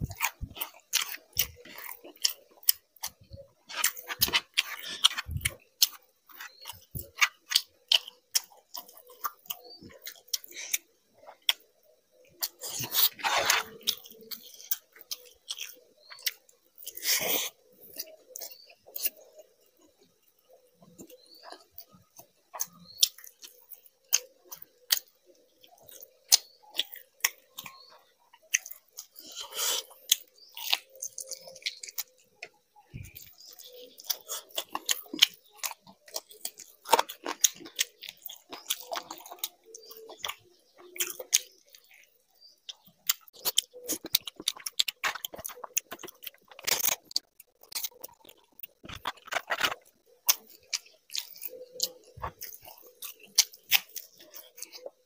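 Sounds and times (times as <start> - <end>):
food crunching: 0.0 - 55.0
man chewing with mouth smacks: 0.0 - 55.0.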